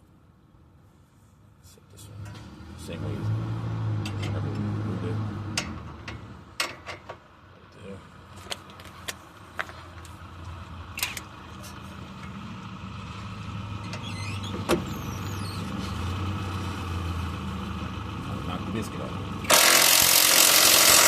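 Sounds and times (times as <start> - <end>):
motor vehicle humming: 1.0 - 21.0.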